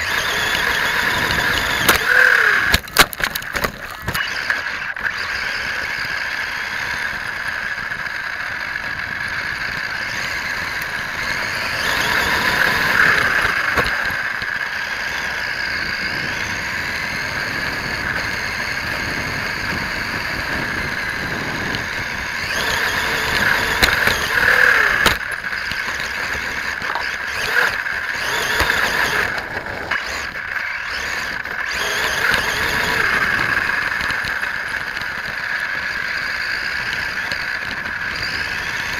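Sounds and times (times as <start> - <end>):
electric motor and gears whine: 0.0 - 38.9.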